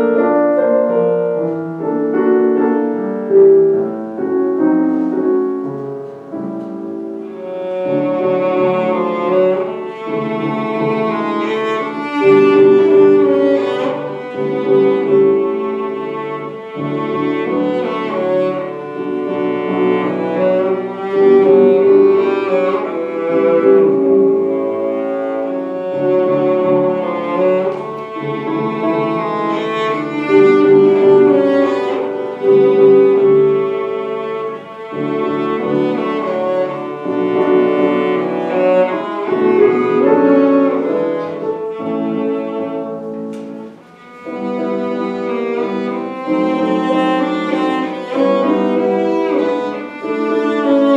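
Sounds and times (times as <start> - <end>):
bowed string instrument melody: 0.0 - 50.9.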